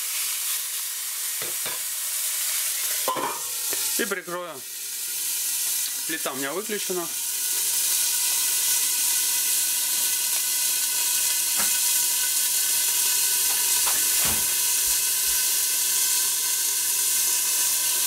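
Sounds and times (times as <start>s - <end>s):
steaks sizzling in fat: 0.0s - 18.0s.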